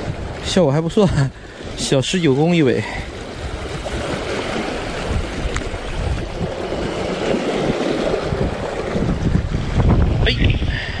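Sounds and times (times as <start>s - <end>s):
waves splashing: 0.0s - 11.0s
wind gusting over microphone: 0.0s - 11.0s.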